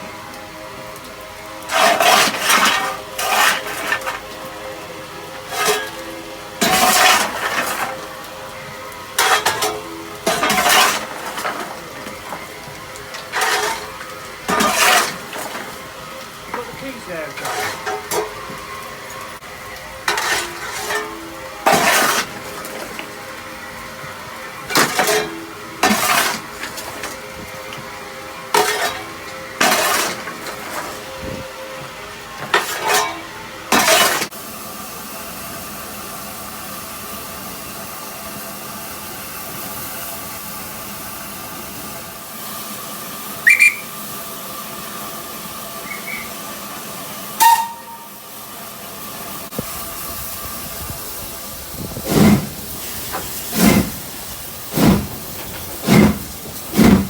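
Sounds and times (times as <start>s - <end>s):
steam locomotive hissing: 0.0s - 57.0s.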